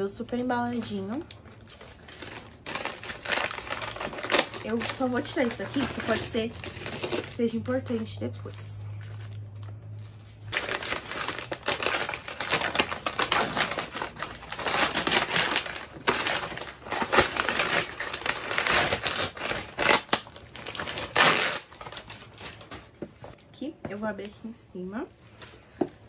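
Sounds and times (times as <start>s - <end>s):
packaging crinkling and rustling: 0.3s - 26.0s.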